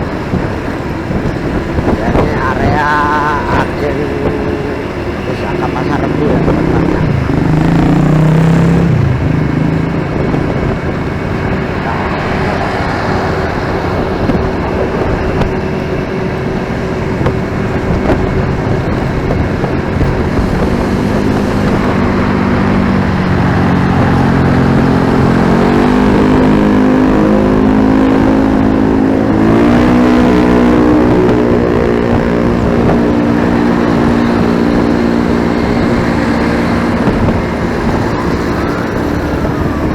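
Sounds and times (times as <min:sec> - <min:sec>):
motorcycle engine: 0:00.0 - 0:39.9
vehicles passing: 0:00.0 - 0:39.9
wind while riding: 0:00.0 - 0:39.9.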